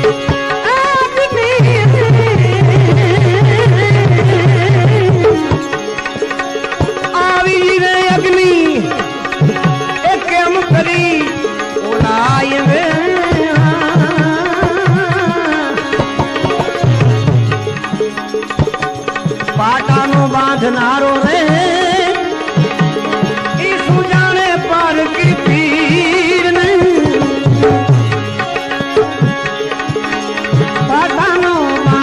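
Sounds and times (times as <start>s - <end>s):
hand drum fast pattern: 0.0s - 32.0s
wavering ornamented melody: 0.0s - 32.0s.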